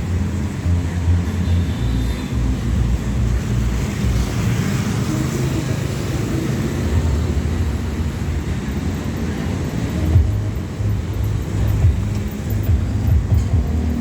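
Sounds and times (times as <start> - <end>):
heavy vehicle engines rumbling: 0.0 - 14.0.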